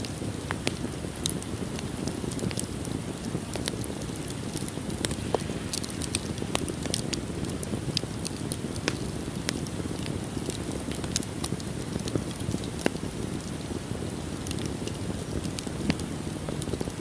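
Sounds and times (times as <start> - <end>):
fire crackling and popping: 0.0 - 17.0
flames rushing: 0.0 - 17.0.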